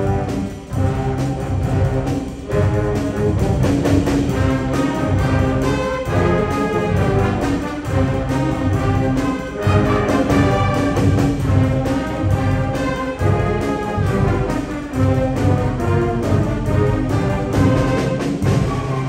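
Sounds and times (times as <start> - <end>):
low brass notes: 0.0 - 19.0
school concert band playing: 0.0 - 19.0.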